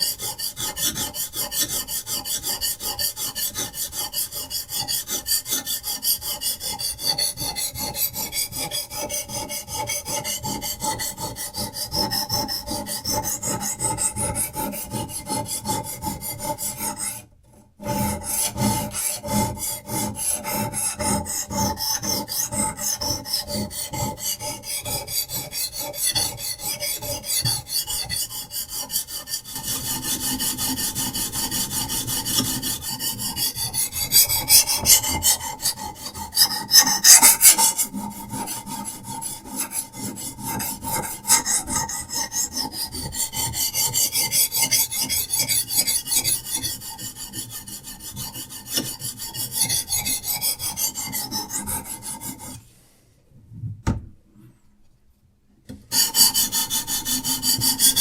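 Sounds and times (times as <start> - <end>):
sharpening stone rasping on knife: 0.0 - 52.6, 55.9 - 58.0.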